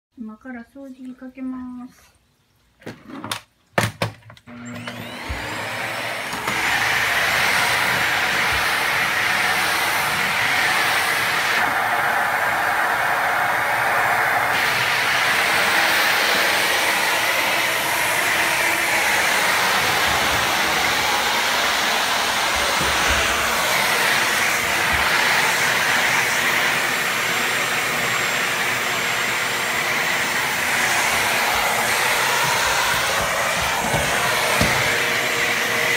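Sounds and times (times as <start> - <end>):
vacuum cleaner motor running: 4.5 - 35.9.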